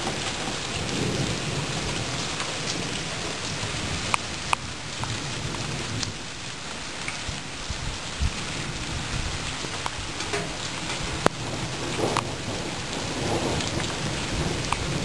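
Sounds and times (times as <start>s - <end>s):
low thunder rumble: 0.0s - 15.0s
steady rain hissing: 0.0s - 15.0s.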